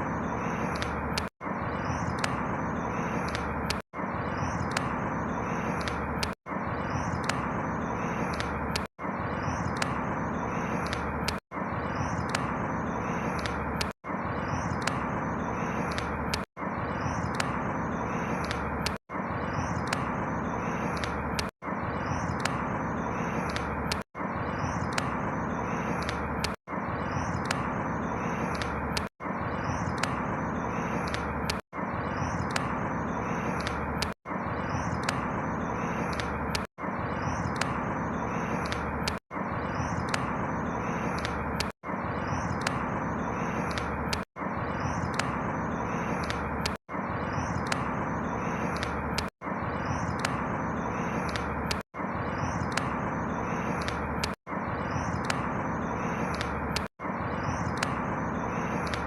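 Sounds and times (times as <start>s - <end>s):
faint bird chirps: 0.0s - 59.0s
outdoor ambient noise: 0.0s - 59.0s.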